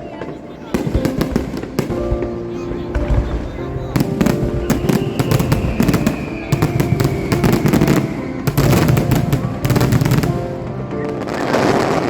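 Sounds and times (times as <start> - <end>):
fireworks crackling: 0.0 - 12.0
music: 0.0 - 12.0.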